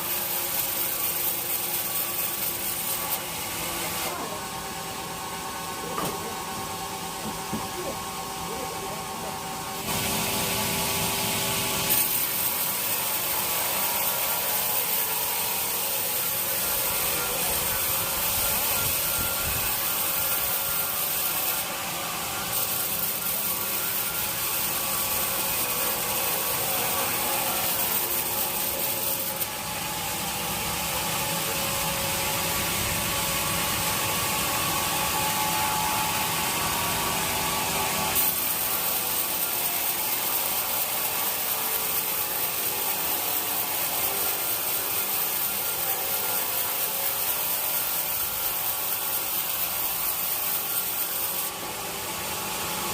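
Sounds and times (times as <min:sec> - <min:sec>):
sawmill saw cutting log: 0:00.0 - 0:52.9.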